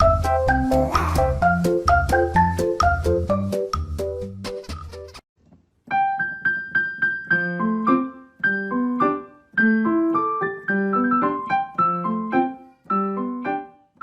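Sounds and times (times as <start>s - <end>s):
light keyboard melody: 0.0s - 4.6s, 5.9s - 14.0s.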